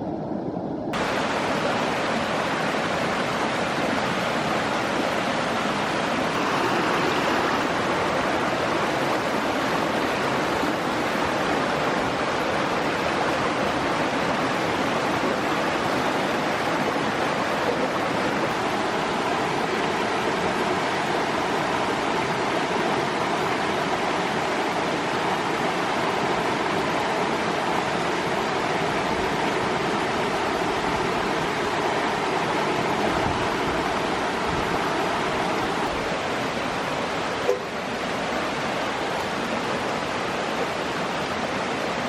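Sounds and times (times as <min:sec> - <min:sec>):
stream water flowing: 0:00.0 - 0:42.0.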